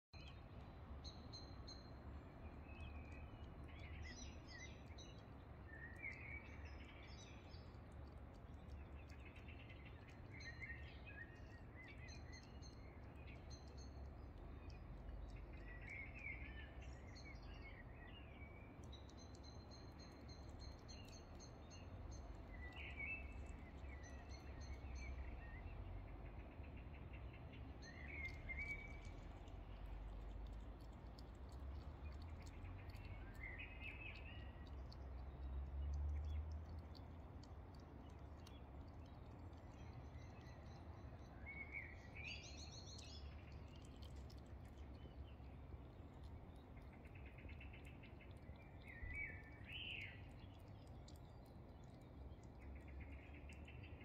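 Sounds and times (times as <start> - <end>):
low background rumble: 0.2 - 54.0
birds singing and calling: 8.4 - 54.0.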